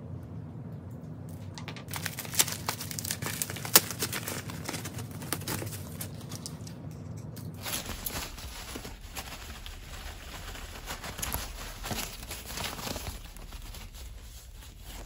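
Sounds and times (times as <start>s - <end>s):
packing wrap rustling and crinkling: 1.6s - 6.7s, 7.6s - 15.0s.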